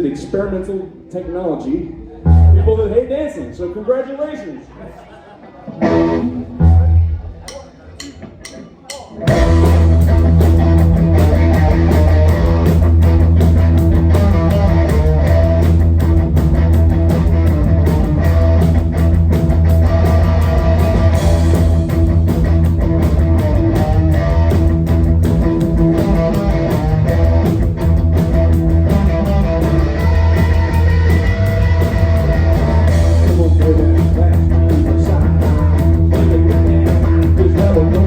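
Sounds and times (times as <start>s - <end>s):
distorted electric guitar riffs: 1.9s - 3.1s, 5.7s - 38.0s
bass and drums: 2.3s - 3.1s, 5.8s - 38.0s.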